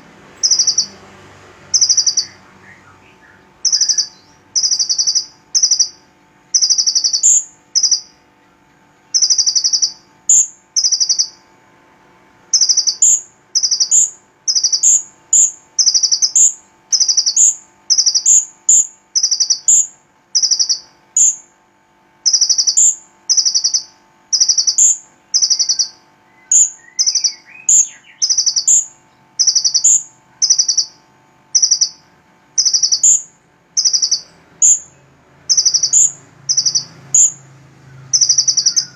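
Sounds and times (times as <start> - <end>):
songbird calling: 0.0 - 1.0, 1.6 - 8.3, 9.0 - 11.5, 12.5 - 21.5, 22.2 - 38.9
faint steady hum: 0.0 - 38.9.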